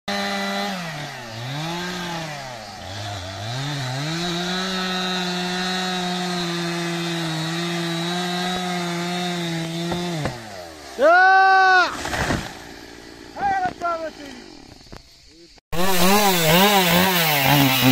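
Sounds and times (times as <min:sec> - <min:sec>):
chainsaw cutting tree trunk: 0:00.1 - 0:11.0, 0:11.9 - 0:14.9, 0:15.8 - 0:17.9.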